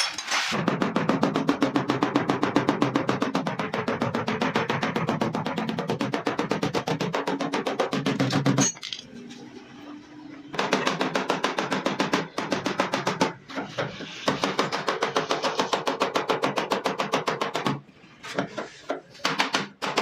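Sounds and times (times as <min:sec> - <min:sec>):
hammering on sheet-metal panel: 0:00.5 - 0:08.7, 0:10.6 - 0:17.8, 0:18.4 - 0:20.0.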